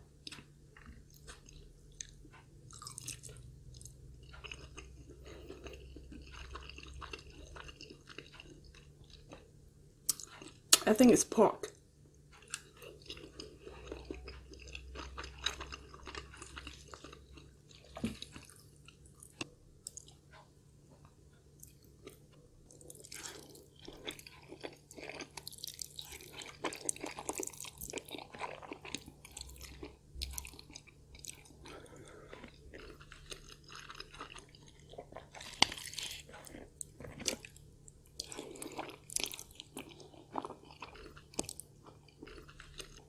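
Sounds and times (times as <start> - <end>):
chewing food: 0.0 - 10.9, 11.6 - 43.0.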